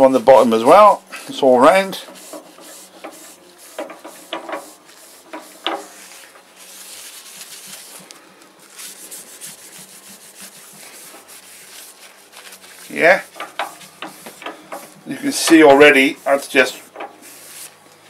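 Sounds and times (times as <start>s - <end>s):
cloth rubbing on spinning wood: 0.0s - 17.8s.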